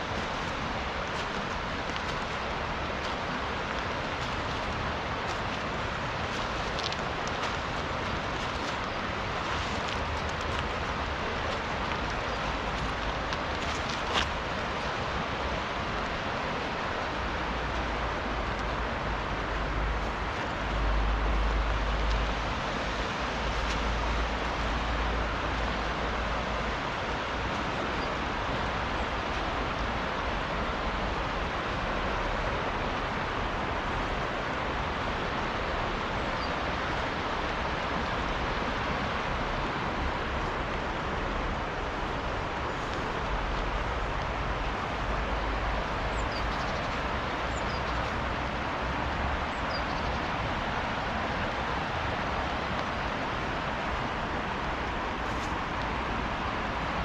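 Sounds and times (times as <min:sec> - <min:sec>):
fast river rushing: 0:00.0 - 0:57.0.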